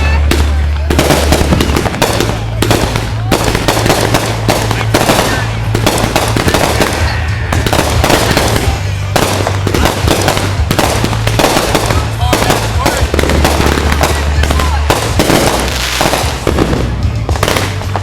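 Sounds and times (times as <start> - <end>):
fireworks cracking and banging: 0.0 - 18.0
music with steady bass line: 0.0 - 18.0.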